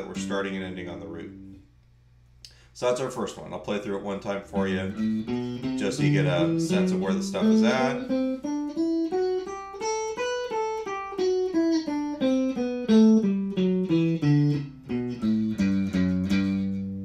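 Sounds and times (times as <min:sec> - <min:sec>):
electric guitar playing a scale: 0:00.0 - 0:01.7, 0:04.5 - 0:17.0.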